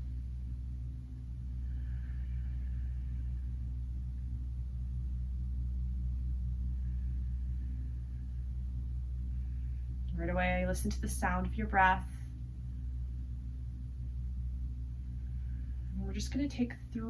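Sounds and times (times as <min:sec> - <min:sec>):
low-pitched hum: 0:00.0 - 0:17.0.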